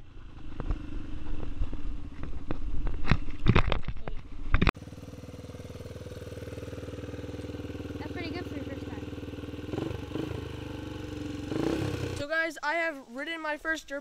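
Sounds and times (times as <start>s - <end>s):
dirt bike engine running: 0.0s - 3.4s, 4.3s - 12.4s.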